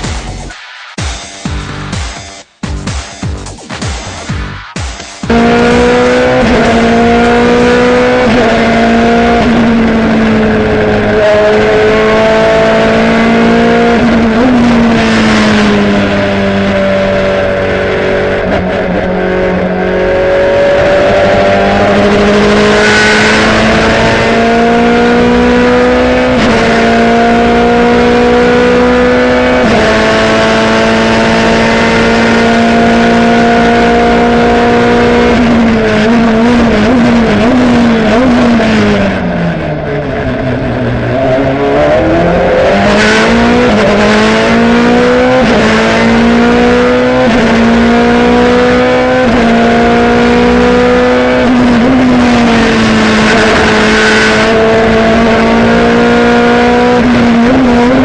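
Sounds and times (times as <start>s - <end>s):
race car engine at full throttle: 4.1s - 58.0s.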